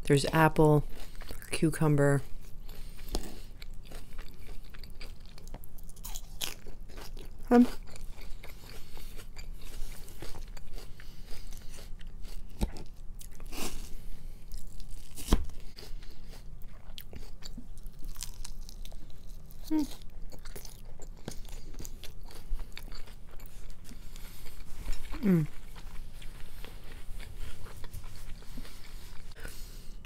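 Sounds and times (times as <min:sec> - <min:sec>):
chewing and crunching raw salad: 0:00.2 - 0:30.0.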